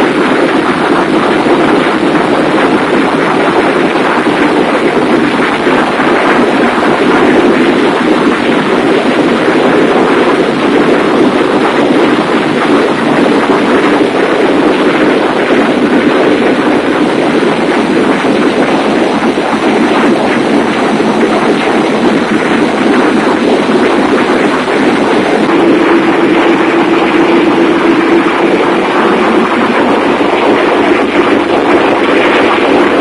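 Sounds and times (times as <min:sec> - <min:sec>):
ship engine room machinery: 0:00.0 - 0:33.0.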